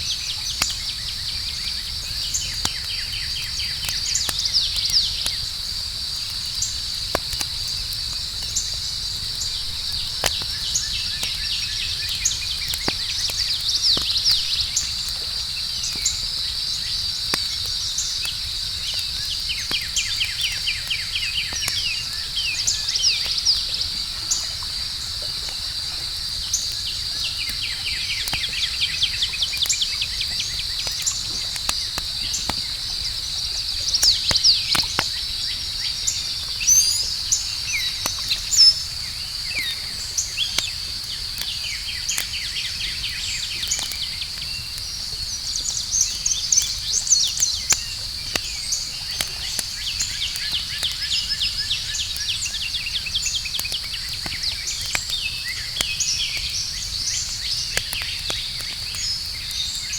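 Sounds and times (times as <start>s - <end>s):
insect chirps: 0.0s - 59.9s
campfire crackling: 0.1s - 59.9s
cricket trill: 0.1s - 59.9s.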